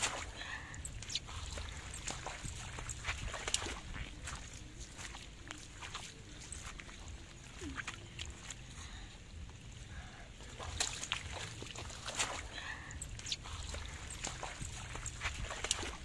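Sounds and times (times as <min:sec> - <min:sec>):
hands squelching in mud: 0:00.0 - 0:08.8, 0:10.4 - 0:16.0.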